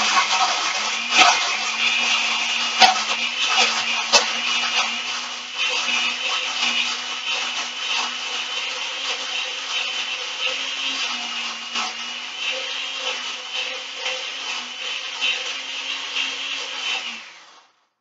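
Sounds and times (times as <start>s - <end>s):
blender grinding: 0.0s - 18.0s
blender motor whine: 0.0s - 18.0s.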